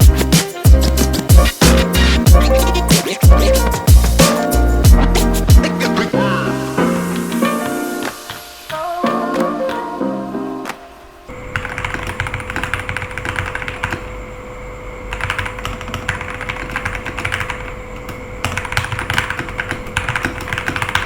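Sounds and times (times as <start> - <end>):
keyboard keys clacking: 0.0 - 14.2, 15.1 - 21.0.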